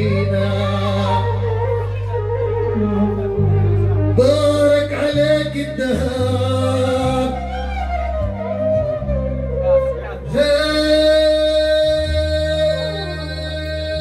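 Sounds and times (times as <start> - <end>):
band accompaniment with bass: 0.0 - 14.0
man singing into a microphone: 0.0 - 14.0.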